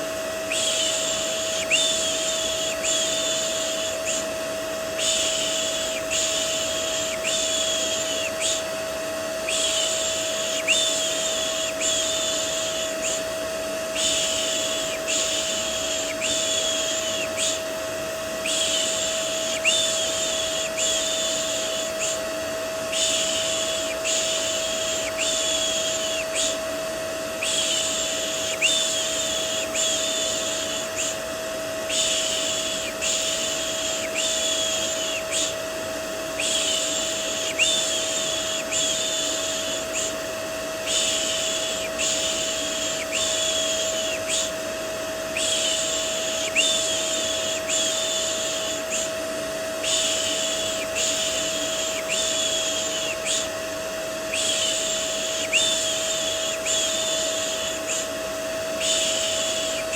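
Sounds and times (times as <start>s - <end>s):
vacuum cleaner hum and whine: 0.0s - 59.9s.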